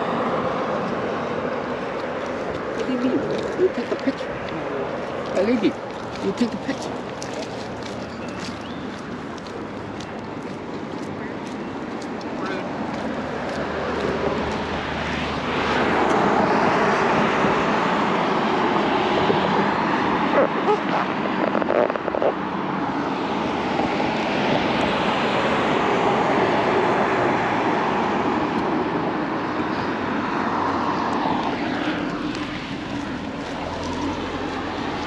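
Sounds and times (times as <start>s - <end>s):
passing vehicles rushing: 0.0s - 35.0s.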